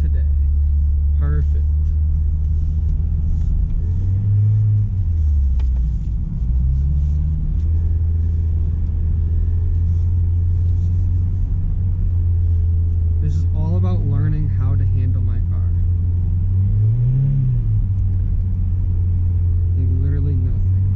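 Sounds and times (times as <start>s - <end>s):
car engine droning: 0.0s - 20.9s.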